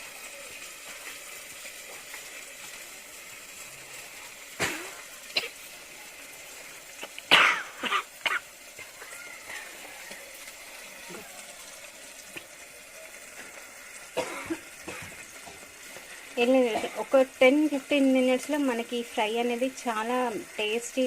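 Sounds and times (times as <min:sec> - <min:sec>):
fish frying in oil: 0:00.0 - 0:21.0.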